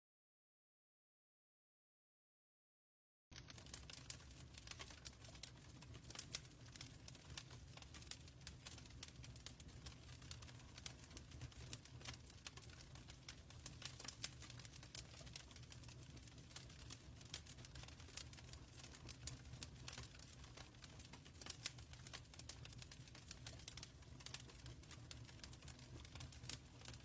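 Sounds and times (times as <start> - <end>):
wood fire crackling: 3.3 - 27.0.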